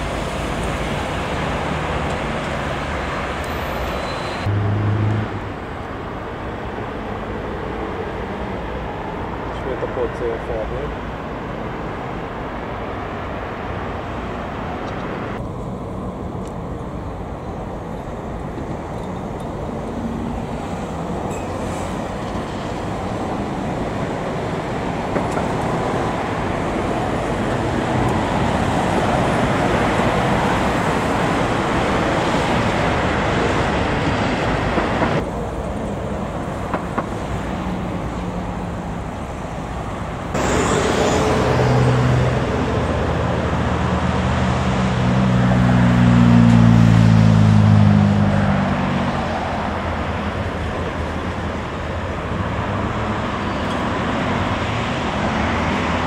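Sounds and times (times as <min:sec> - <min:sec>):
tram rumbling along track: 0:00.0 - 0:56.0.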